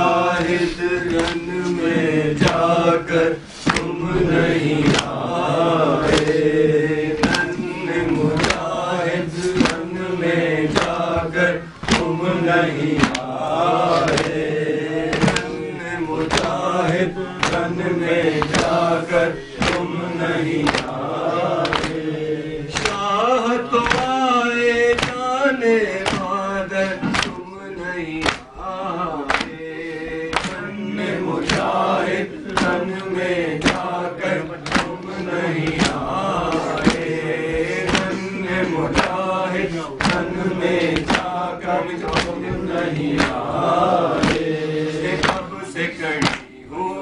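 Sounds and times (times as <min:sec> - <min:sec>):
hands slapping chests: 0:00.0 - 0:23.1, 0:23.7 - 0:24.2, 0:24.8 - 0:46.5
men chanting a lament: 0:00.0 - 0:47.0.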